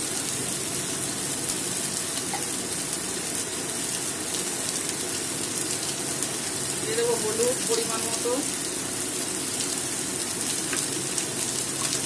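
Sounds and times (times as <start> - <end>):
prawns sizzling in oil: 0.0 - 12.0.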